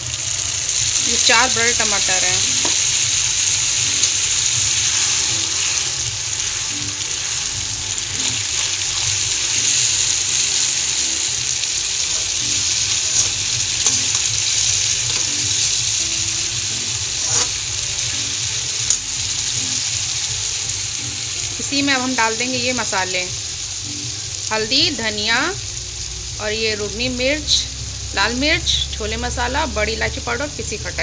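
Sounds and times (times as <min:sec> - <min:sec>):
tomato sizzling in oil: 0:00.0 - 0:31.0.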